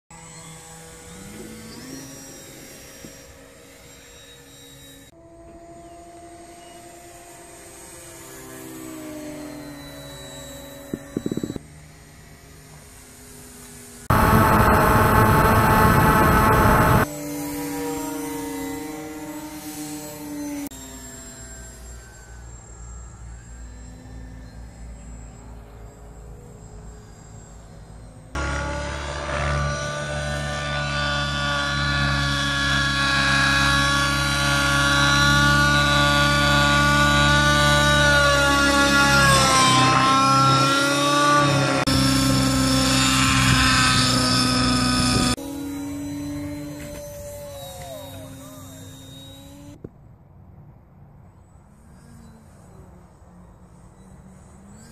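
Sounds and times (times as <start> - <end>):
model airplane motor flying past: 0.1 - 54.9
rc helicopter engine whine: 0.1 - 54.9.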